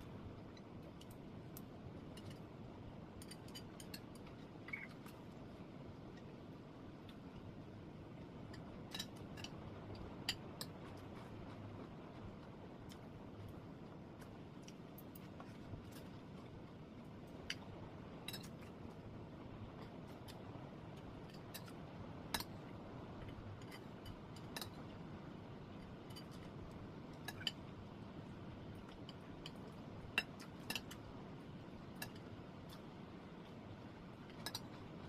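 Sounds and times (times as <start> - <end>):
faint background hiss: 0.0 - 35.0.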